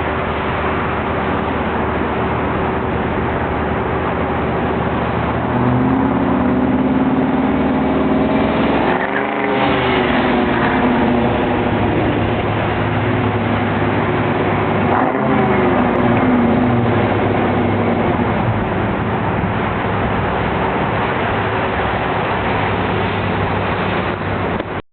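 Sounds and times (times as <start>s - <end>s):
car engine exhaust running: 0.0s - 24.8s.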